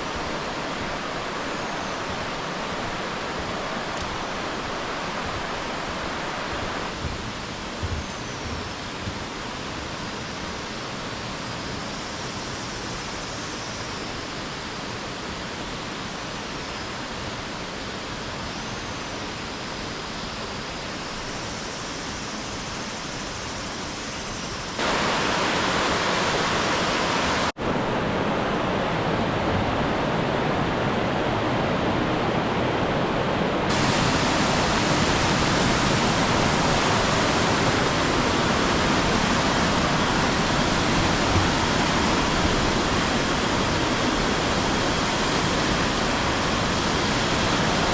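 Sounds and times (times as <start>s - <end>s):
rushing stream water: 0.0s - 47.9s.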